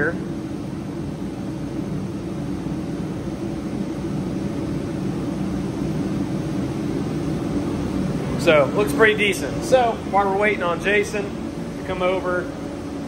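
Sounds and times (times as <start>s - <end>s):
heater humming with air rush: 0.0s - 13.0s.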